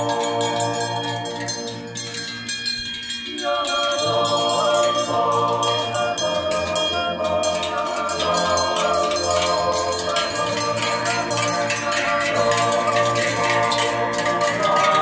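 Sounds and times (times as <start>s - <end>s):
bells clanging: 0.0s - 15.0s
choral singing with music: 0.0s - 15.0s.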